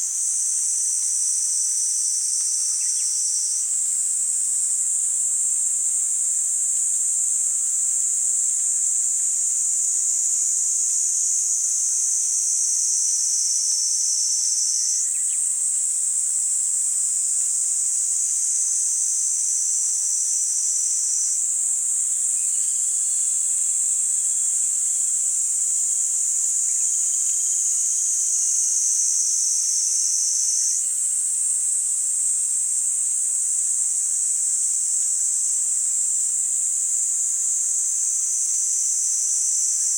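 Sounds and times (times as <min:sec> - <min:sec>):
cicada buzzing drone: 0:00.0 - 0:39.9.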